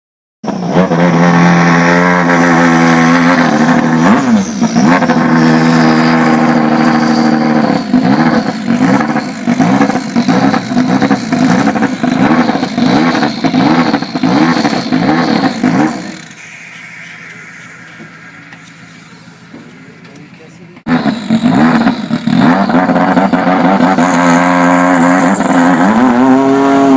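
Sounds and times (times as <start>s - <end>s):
race car engine revving: 0.5s - 26.9s
thin high whine: 2.2s - 26.9s.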